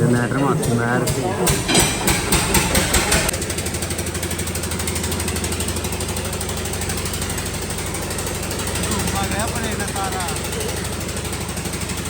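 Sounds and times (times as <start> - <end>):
engine idling with fast knocking: 0.0 - 12.0.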